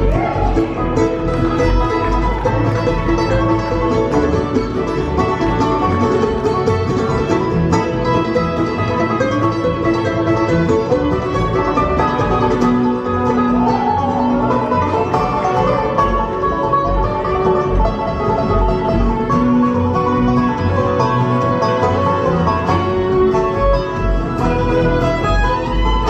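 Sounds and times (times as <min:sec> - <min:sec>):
acoustic guitar: 0:00.0 - 0:26.0
banjo: 0:00.0 - 0:26.0
fiddle: 0:00.0 - 0:26.0
mandolin: 0:00.0 - 0:26.0
upright bass: 0:00.0 - 0:26.0.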